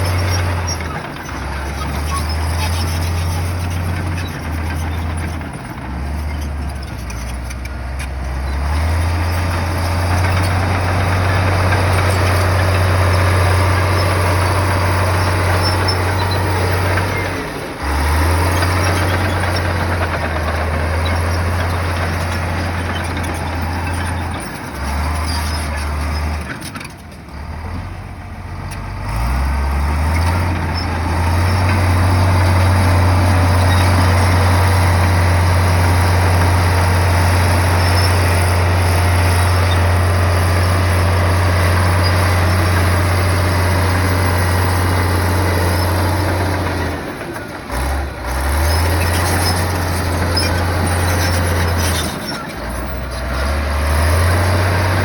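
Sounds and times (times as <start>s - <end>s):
bulldozer diesel engine working: 0.0s - 55.0s.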